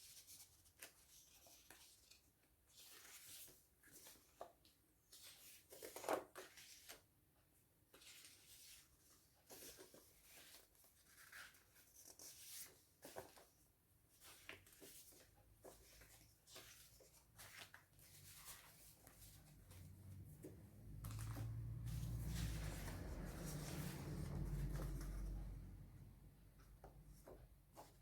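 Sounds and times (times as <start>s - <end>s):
paper rustling: 0.0s - 7.1s, 7.9s - 25.7s.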